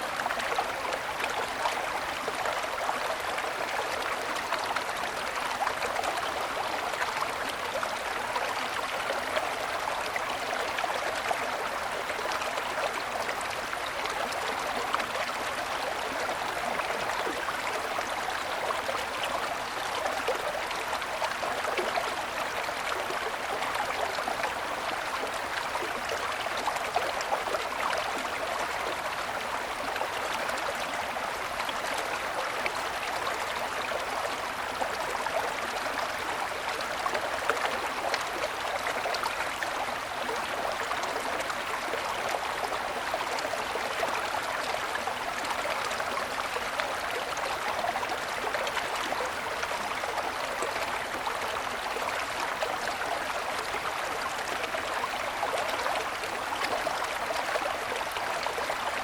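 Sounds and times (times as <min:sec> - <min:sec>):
mountain stream babbling: 0:00.0 - 0:59.0.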